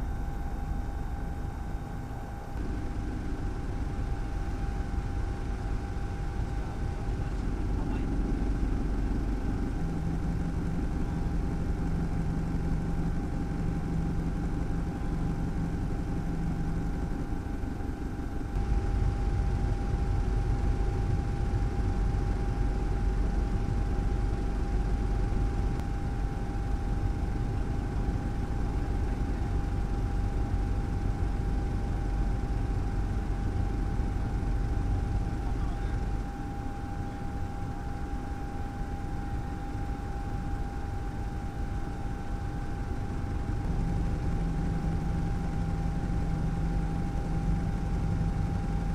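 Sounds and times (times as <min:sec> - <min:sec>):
aircraft engine drone: 0:00.0 - 0:48.9.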